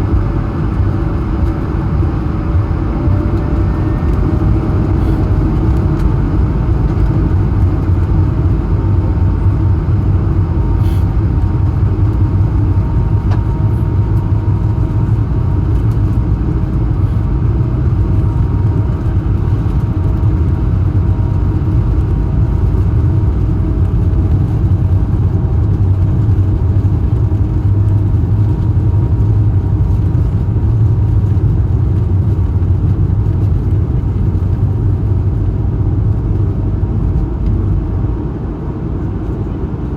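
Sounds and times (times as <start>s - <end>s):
jet engines deep rumble: 0.0s - 39.9s.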